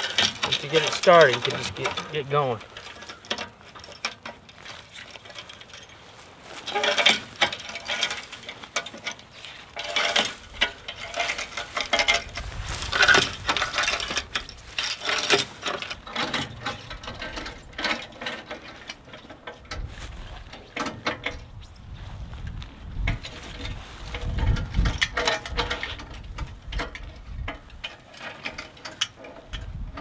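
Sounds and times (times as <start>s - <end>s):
steel chain clinking and rattling: 0.0s - 21.6s, 23.1s - 30.0s.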